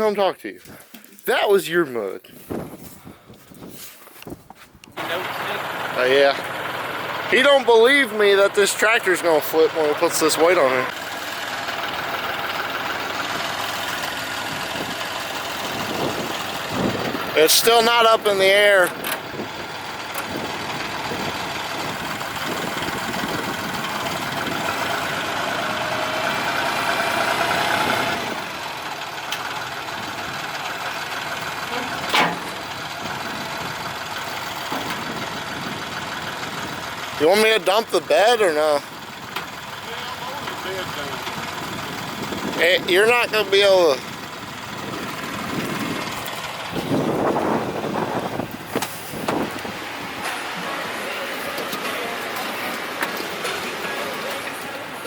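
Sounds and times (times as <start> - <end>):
tractor diesel engine under load: 4.9 - 55.0.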